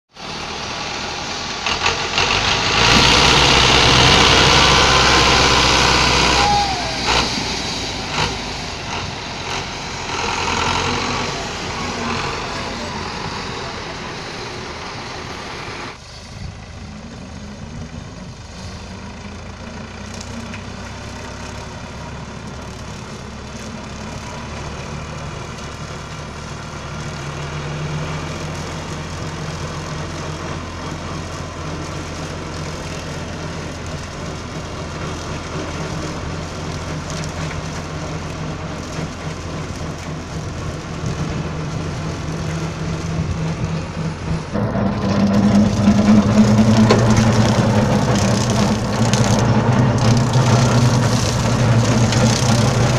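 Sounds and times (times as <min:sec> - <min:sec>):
different tractor engine: 0:00.1 - 0:52.9
tractor diesel engine running: 0:00.1 - 0:52.9.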